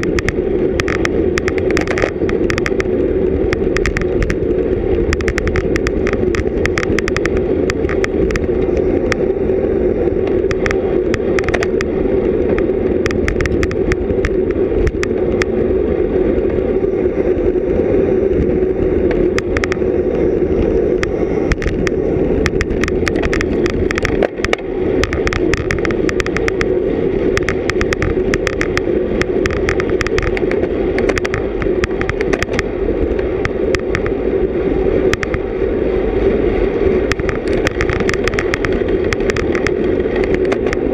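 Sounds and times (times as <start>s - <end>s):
sharp clicks and rattles: 0.0s - 15.6s, 18.3s - 34.2s, 34.8s - 35.6s, 36.8s - 40.9s
wind and road noise: 0.0s - 40.9s.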